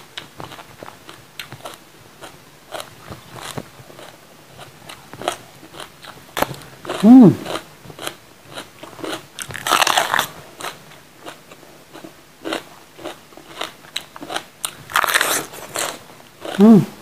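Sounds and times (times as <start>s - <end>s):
chewing crunchy bell pepper: 0.2s - 17.0s.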